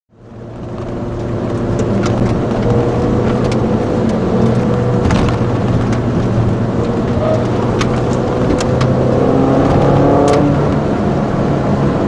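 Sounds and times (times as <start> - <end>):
car engine under load: 0.1 - 12.0.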